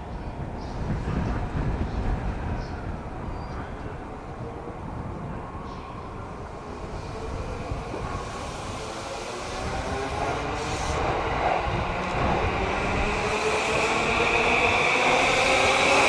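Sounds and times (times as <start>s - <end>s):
electric train rumbling on rails: 0.0s - 16.0s.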